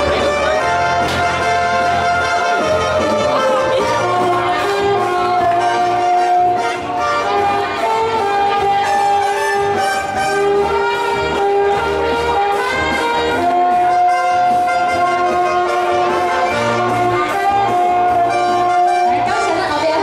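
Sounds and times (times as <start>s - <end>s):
slow instrumental music: 0.0s - 20.0s.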